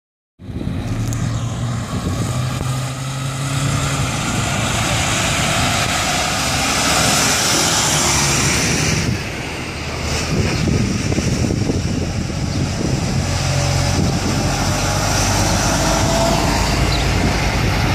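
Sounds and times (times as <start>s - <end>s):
truck engine drone: 0.4s - 17.9s
tyre and road noise: 0.4s - 17.9s.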